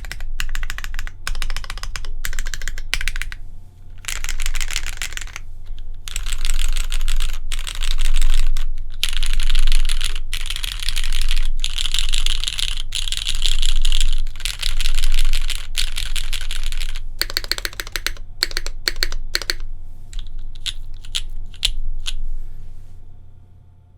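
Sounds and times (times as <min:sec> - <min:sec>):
mechanical keyboard typing: 0:00.0 - 0:03.4, 0:04.0 - 0:22.2.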